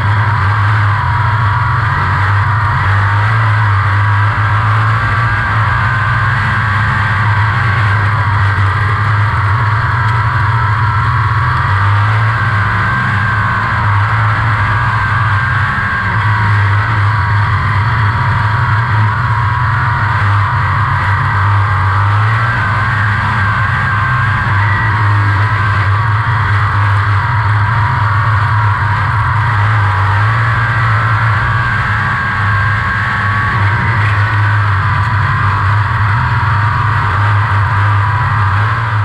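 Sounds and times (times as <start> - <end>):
race car engine droning: 0.0 - 39.0.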